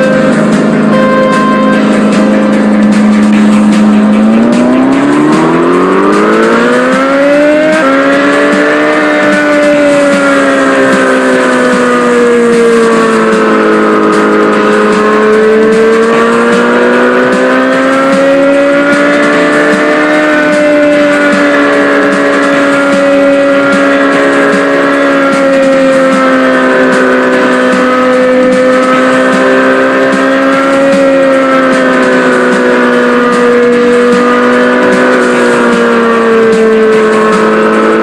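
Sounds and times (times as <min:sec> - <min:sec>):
mini bike engine running: 0:00.0 - 0:38.0.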